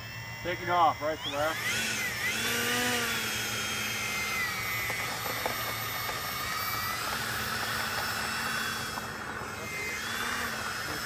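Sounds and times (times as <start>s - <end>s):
electric ducted fan whine: 0.0s - 11.0s.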